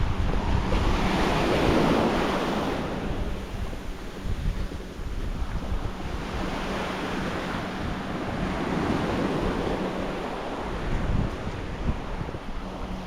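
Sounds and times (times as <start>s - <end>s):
small waves washing onto beach: 0.0s - 13.0s
wind buffeting microphone: 0.0s - 13.0s.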